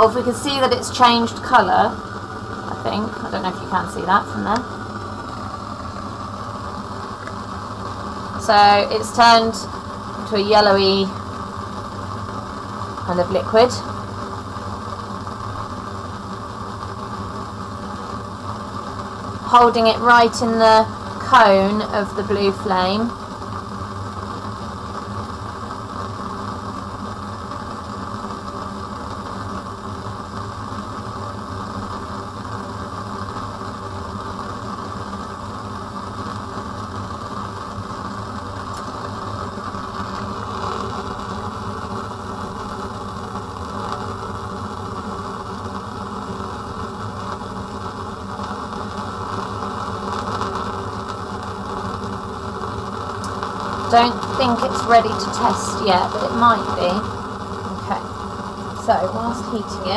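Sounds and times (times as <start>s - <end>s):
bunsen burner flame: 0.0s - 59.9s
extraction fan running: 0.0s - 59.9s.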